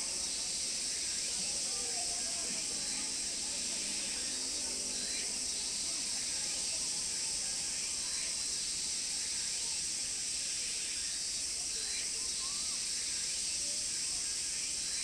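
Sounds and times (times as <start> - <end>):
faint distant voices: 0.0 - 15.0
high insect drone: 0.0 - 15.0.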